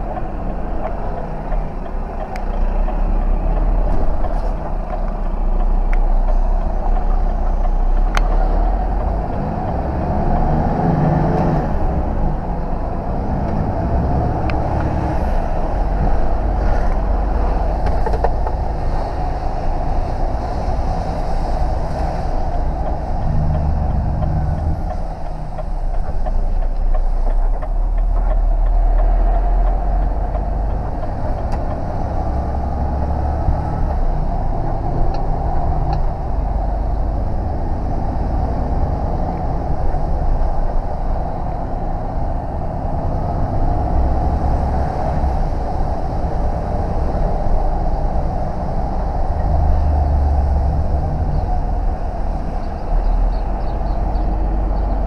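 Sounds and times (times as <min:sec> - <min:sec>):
road noise inside cab: 0:00.0 - 0:55.0
truck diesel engine drone: 0:00.0 - 0:55.0.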